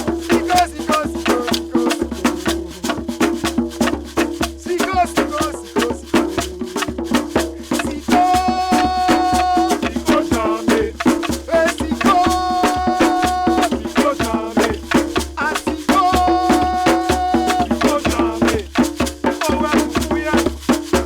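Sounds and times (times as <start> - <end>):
shakers and wood-block clicks: 0.0 - 21.0.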